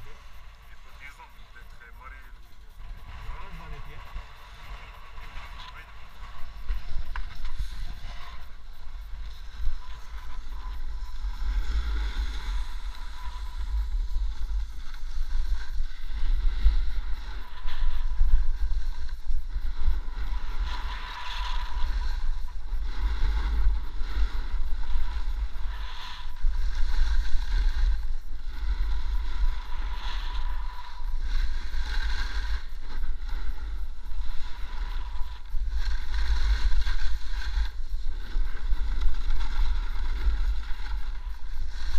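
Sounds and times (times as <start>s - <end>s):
snowboard scraping over snow: 0.0s - 41.9s
wind buffeting microphone: 0.0s - 41.9s.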